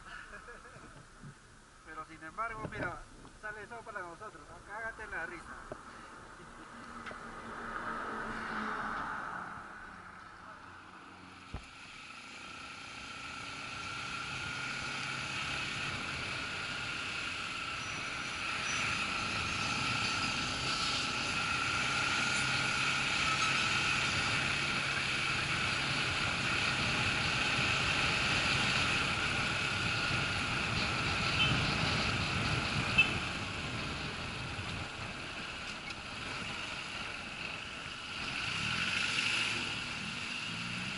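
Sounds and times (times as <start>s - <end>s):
motorcycle engine: 5.9s - 40.9s.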